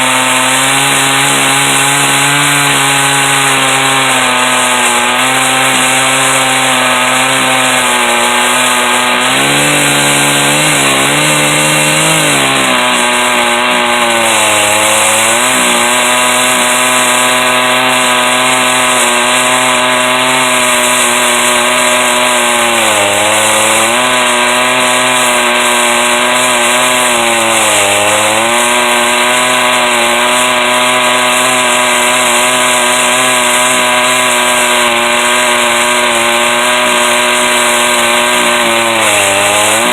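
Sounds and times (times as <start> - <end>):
chainsaw ripping through log: 0.0 - 39.9.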